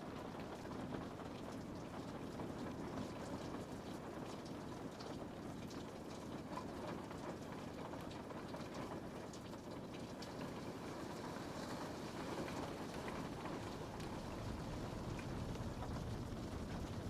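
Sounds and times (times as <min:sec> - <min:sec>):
rain on a window: 0:00.0 - 0:17.0.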